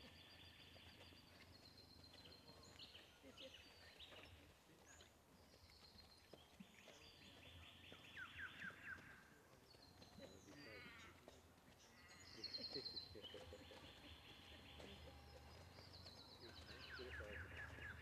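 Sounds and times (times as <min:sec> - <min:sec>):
birds trilling and chirping: 0:00.0 - 0:18.0.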